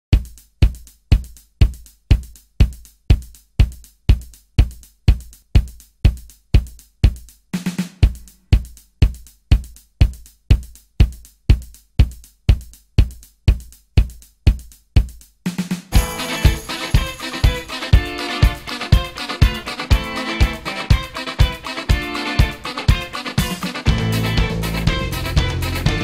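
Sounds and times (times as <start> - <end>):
booming kick drum beat: 0.1 - 26.0
quick drum fill: 0.2 - 26.0.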